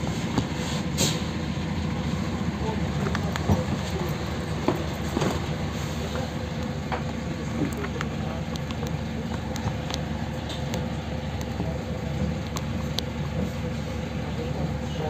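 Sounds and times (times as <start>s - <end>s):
clicks and rattles of bus body: 0.0s - 1.4s, 2.9s - 14.2s
bus engine idling: 0.0s - 15.0s.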